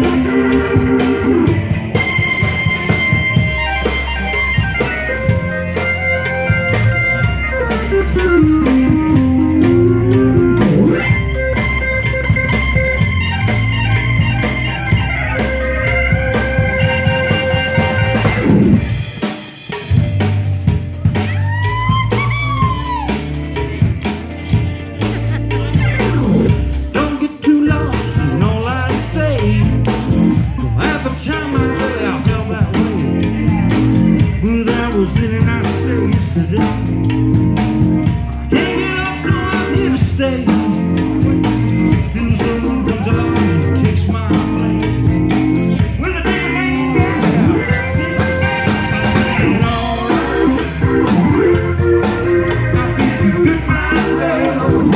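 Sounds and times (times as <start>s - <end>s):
drum kit: 0.0s - 54.9s
electric guitar: 0.0s - 54.9s
keyboards: 0.0s - 54.9s.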